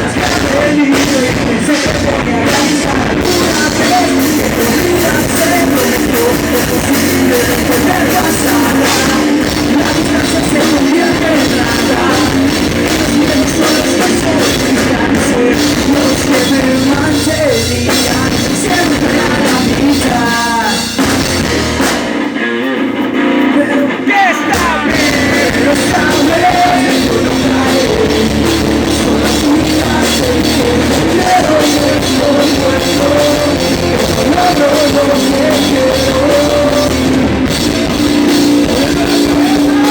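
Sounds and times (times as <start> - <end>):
person singing: 0.0 - 21.6, 22.3 - 39.9
bass guitar: 0.0 - 39.9
distorted electric guitars: 0.0 - 39.9
drum kit: 0.0 - 39.9.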